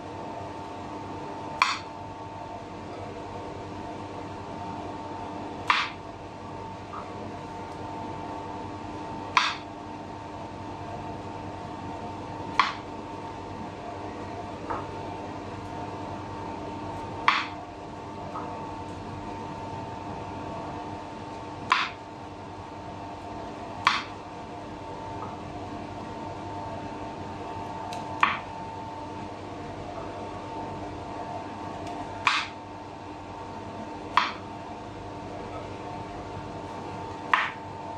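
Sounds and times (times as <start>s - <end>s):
fan hum: 0.0s - 37.9s.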